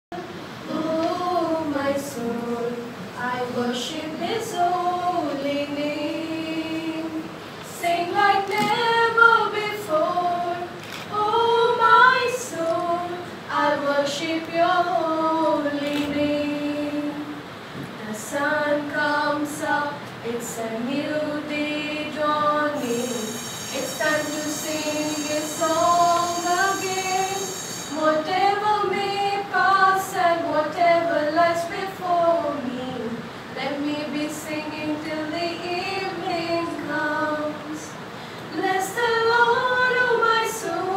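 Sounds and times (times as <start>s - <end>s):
women singing unaccompanied: 0.1s - 40.9s.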